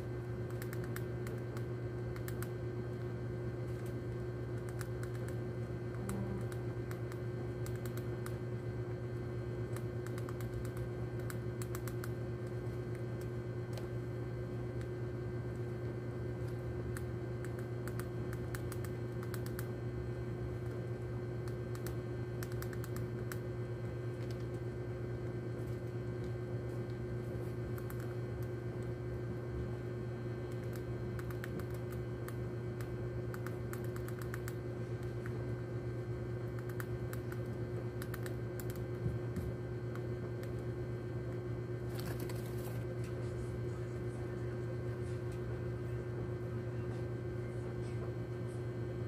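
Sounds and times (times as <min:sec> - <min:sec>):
rat gnawing pellets: 0:00.0 - 0:46.0
low hum: 0:00.0 - 0:49.0.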